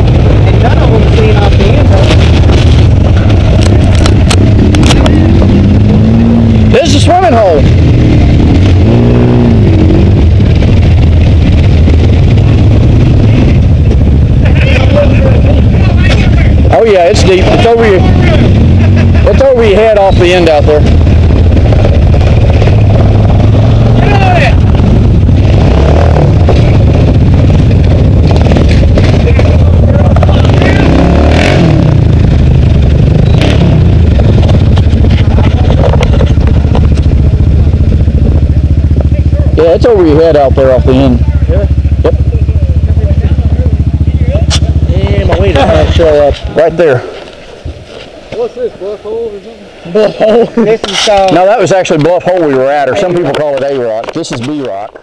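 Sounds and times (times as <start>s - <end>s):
off-road vehicle engines droning: 0.0s - 55.0s.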